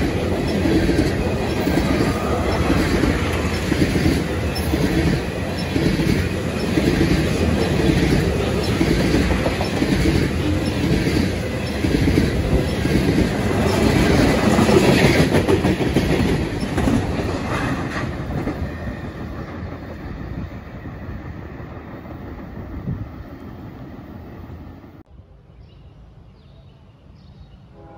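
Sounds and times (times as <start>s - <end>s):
train wheels clicking over rail joints: 0.0s - 23.1s
freight train rumble: 0.0s - 25.3s.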